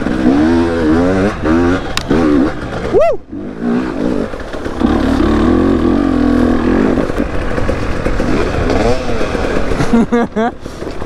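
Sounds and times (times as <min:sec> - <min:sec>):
two-stroke motorbike engine revving: 0:00.0 - 0:11.0.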